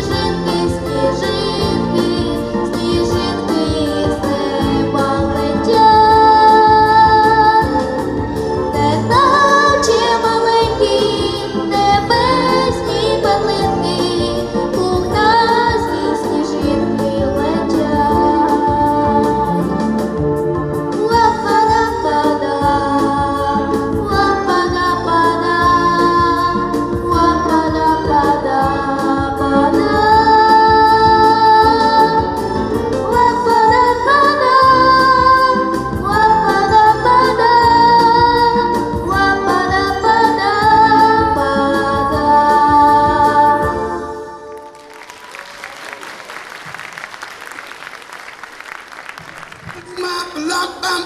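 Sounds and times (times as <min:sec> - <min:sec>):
musical accompaniment: 0:00.0 - 0:51.0.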